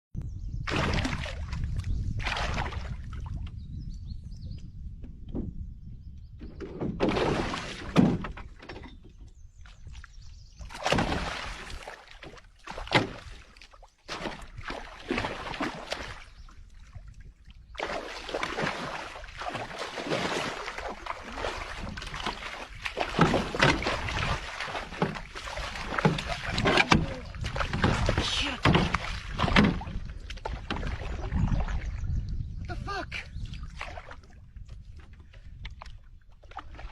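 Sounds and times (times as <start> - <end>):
water splashing around boat: 0.7 - 3.6, 6.5 - 36.9.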